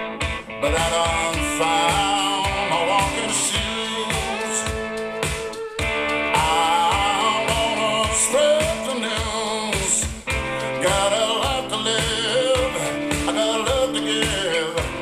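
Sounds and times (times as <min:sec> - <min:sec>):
rock song over loudspeakers: 0:00.0 - 0:15.0.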